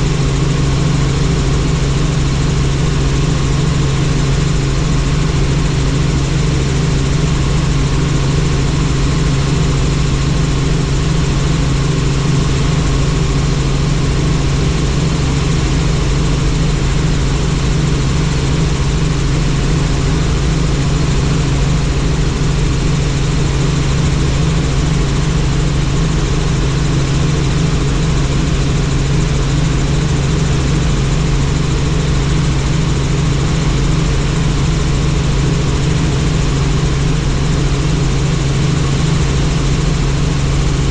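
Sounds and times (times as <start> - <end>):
helicopter rotor drone: 0.0 - 40.9.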